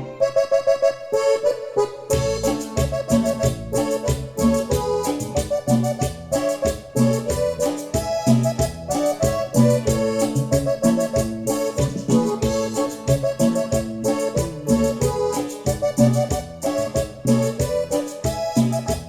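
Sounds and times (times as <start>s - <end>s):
instrumental music with steady beat: 0.0s - 19.0s.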